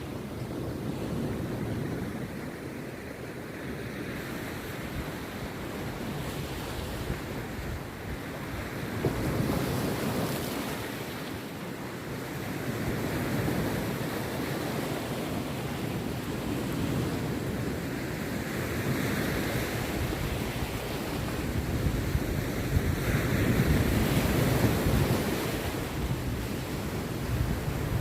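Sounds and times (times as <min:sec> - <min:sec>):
sea surf breaking: 0:00.0 - 0:28.0
wind rumbling on microphone: 0:00.0 - 0:28.0.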